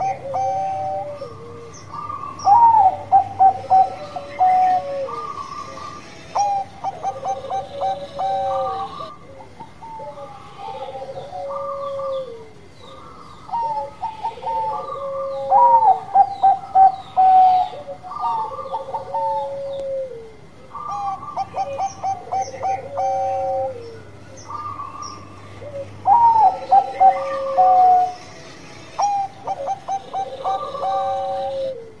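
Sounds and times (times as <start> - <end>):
dove cooing: 0.0 - 32.0
small birds chirping: 0.0 - 32.0.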